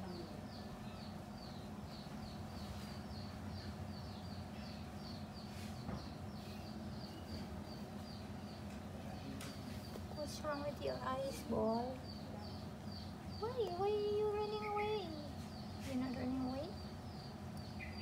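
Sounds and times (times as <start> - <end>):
low steady hum: 0.0 - 18.0
small bird chirping: 0.0 - 18.0.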